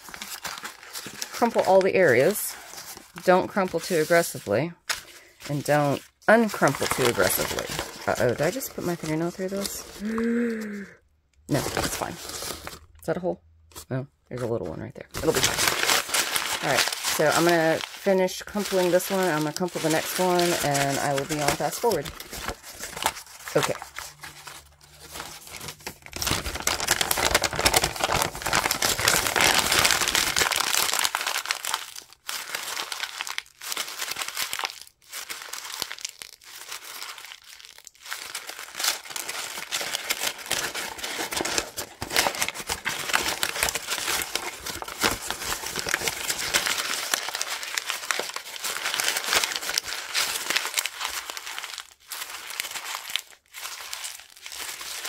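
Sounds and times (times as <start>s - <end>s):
paper being crumpled: 0.0s - 10.9s, 11.5s - 13.0s, 15.1s - 55.0s.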